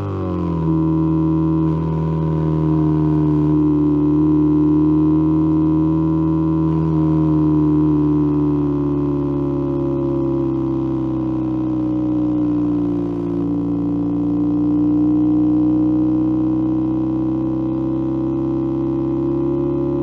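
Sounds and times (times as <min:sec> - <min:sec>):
electronic engine-like tone: 0:00.0 - 0:20.0.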